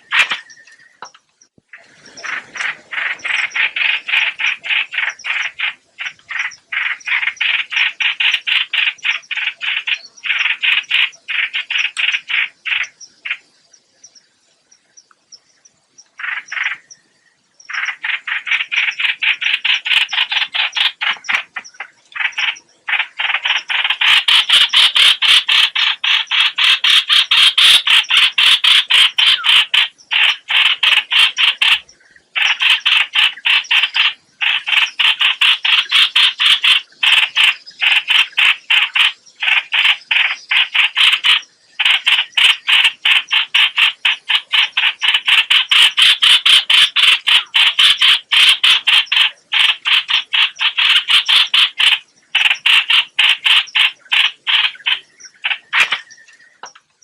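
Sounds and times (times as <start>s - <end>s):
bird harsh rattling call: 1.7s - 13.5s, 16.2s - 17.0s, 17.7s - 56.7s.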